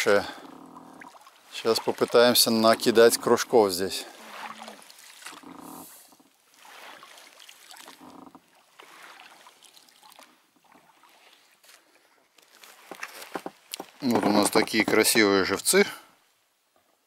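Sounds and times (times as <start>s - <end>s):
oar splashing water: 0.0s - 16.0s.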